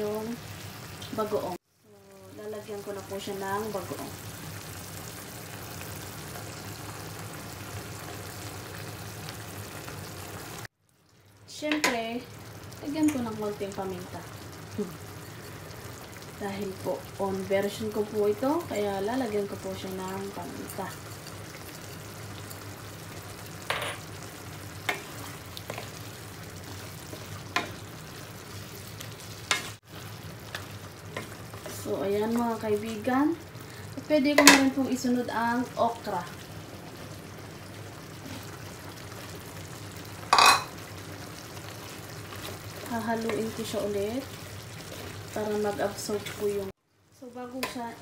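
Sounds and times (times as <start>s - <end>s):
broth bubbling in a pan: 0.0s - 48.0s.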